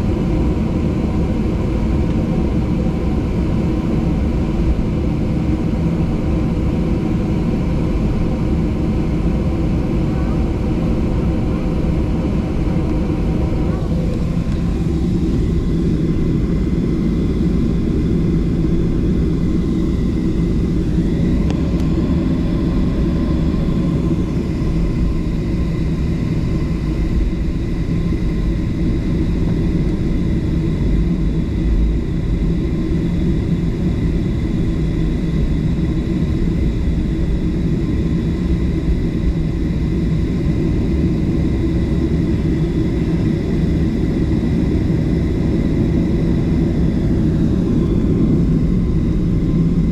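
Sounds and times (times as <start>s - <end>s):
jet engines rumbling in cabin: 0.0s - 49.9s
thin engine whine: 0.0s - 49.9s.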